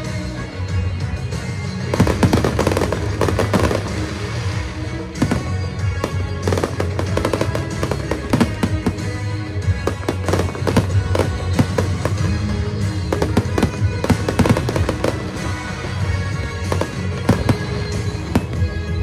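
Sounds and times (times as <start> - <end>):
music playing: 0.0 - 19.0
fireworks bursting and crackling: 1.2 - 19.0.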